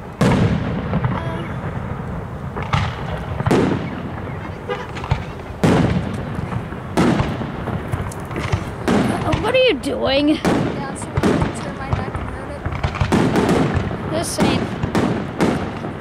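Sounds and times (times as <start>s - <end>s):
firework shells booming: 0.0s - 16.0s.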